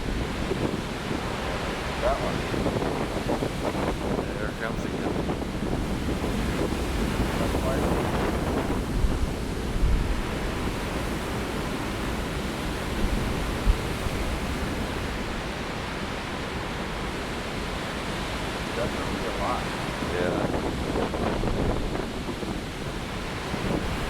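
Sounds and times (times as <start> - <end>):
waves breaking roar: 0.0 - 24.0
wind buffeting microphone: 0.0 - 24.0.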